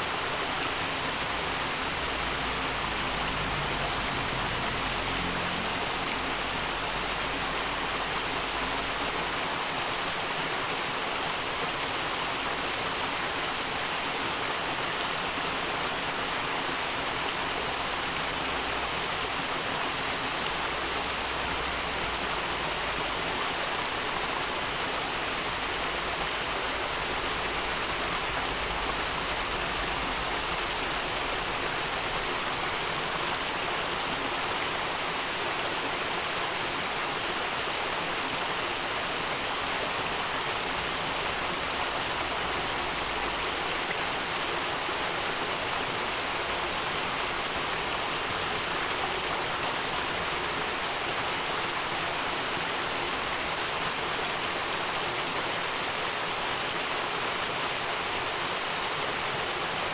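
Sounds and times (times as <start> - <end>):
stream rushing: 0.0 - 59.9.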